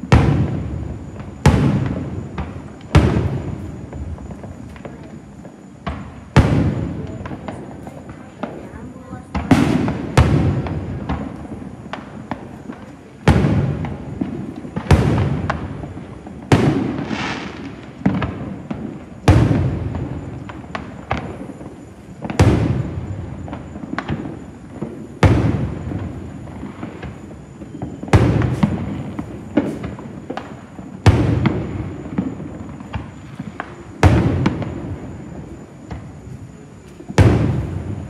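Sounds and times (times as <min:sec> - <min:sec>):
firework pops and crackles: 0:00.0 - 0:38.0
firework shells booming: 0:00.0 - 0:38.0
rolling echo: 0:00.0 - 0:38.0.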